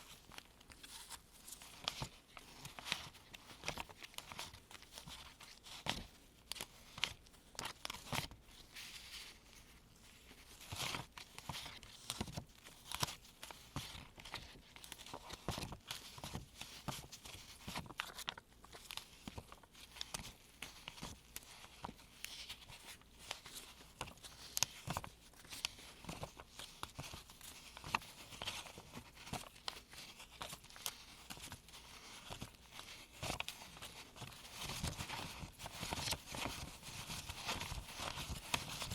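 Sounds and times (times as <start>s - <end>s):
paper bills rustling and snapping: 0.0s - 38.9s.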